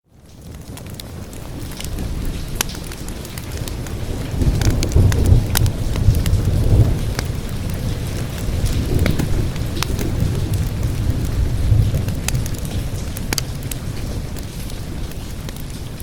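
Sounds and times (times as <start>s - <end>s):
steady rain: 0.0s - 16.0s
wood fire crackling: 0.1s - 16.0s
low thunder rumbling: 1.1s - 16.0s.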